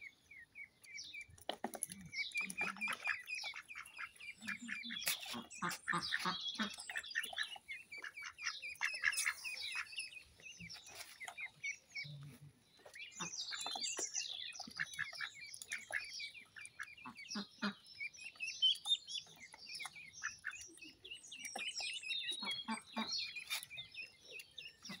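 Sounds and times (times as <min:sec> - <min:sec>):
ducklings peeping: 0:00.0 - 0:25.0.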